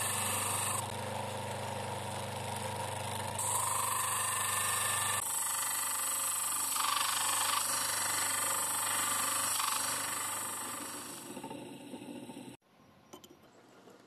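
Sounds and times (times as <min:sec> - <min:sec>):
grinding wheel motor running: 0:00.0 - 0:12.6.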